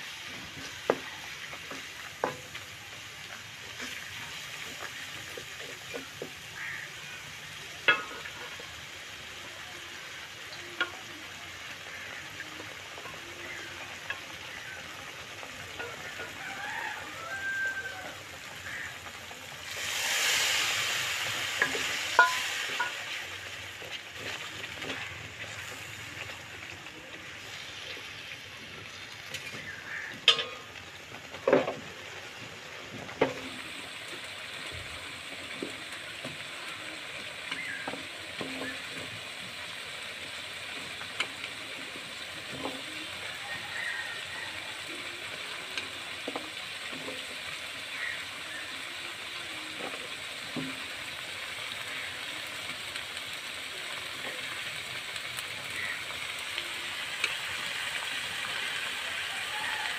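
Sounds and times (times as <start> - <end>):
paste sizzling in oil: 0.0 - 59.9.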